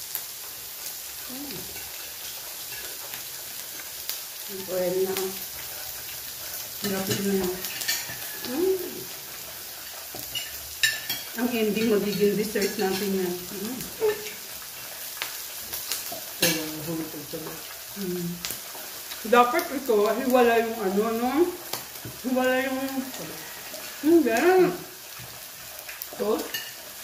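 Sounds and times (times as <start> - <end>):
meat sizzling on a grill: 0.0 - 27.0.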